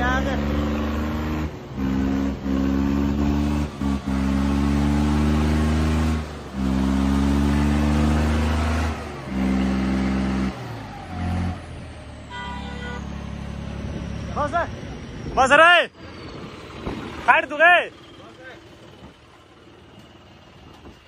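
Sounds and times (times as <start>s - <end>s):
tractor diesel engine running hard: 1.6s - 21.0s.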